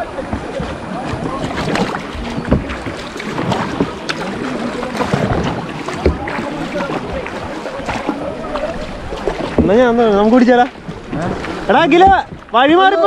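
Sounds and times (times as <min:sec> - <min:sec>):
paddle strokes splashing: 0:00.0 - 0:13.0
water sloshing against hull: 0:00.0 - 0:13.0
wind buffeting microphone: 0:00.0 - 0:13.0.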